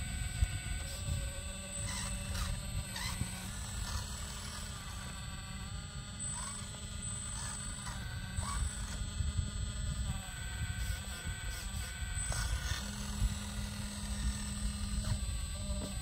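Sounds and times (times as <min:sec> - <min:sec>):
model excavator mechanical whine: 0:00.0 - 0:16.0.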